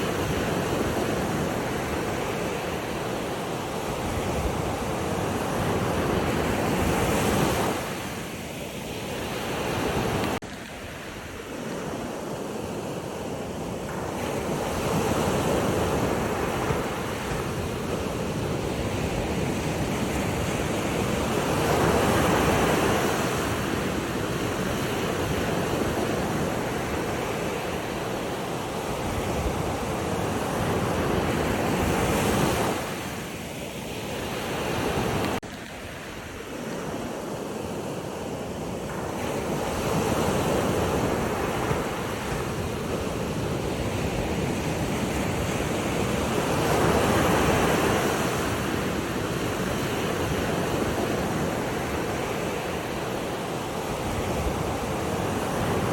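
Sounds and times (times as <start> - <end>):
ocean waves washing in: 0.0 - 55.9.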